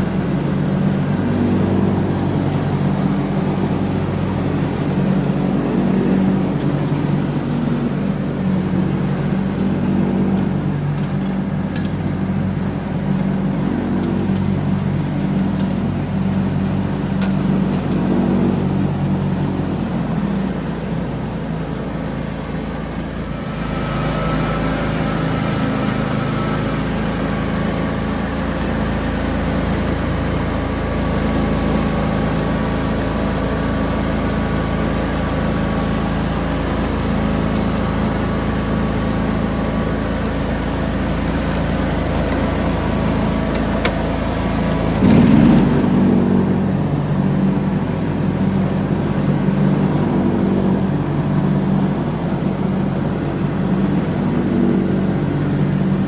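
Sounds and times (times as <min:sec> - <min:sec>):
riding lawn mower engine running: 0:00.0 - 0:56.0.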